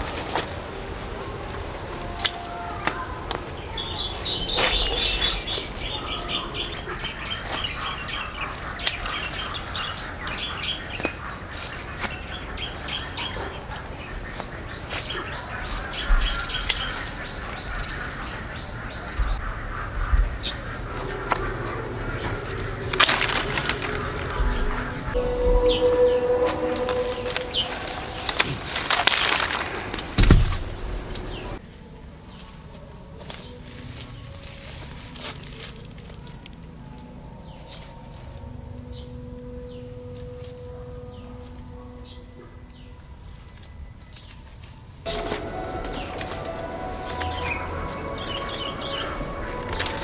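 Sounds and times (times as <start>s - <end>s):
small birds twittering: 1.8s - 29.4s, 30.0s - 31.6s, 35.3s - 50.0s.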